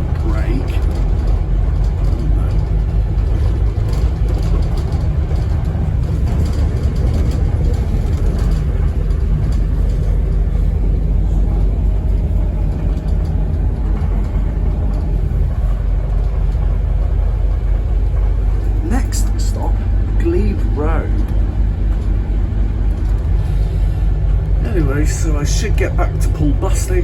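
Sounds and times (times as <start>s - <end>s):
bus engine rumbling: 0.0s - 27.0s
light rattles: 0.0s - 27.0s.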